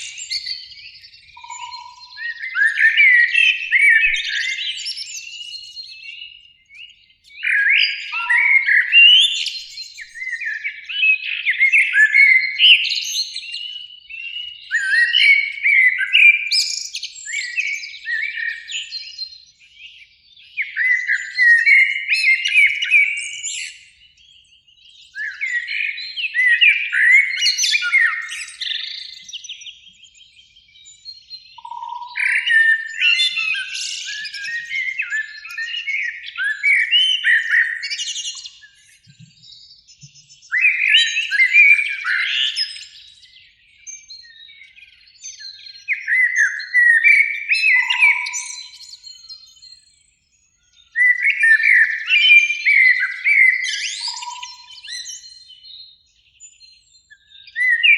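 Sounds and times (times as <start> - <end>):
blackbird singing: 0.0 - 57.9.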